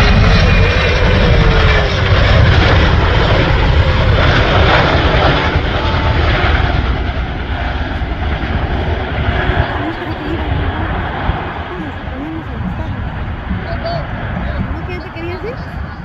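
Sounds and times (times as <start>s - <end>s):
helicopter rotors rumbling: 0.0s - 16.0s.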